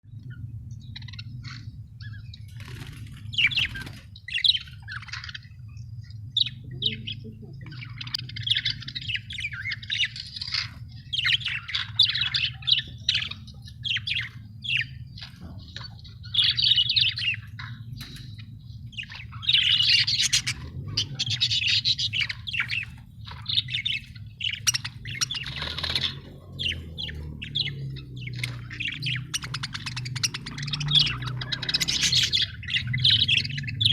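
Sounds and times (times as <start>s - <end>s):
low hum: 0.0s - 33.9s
budgerigars chirping and chattering: 0.1s - 33.9s.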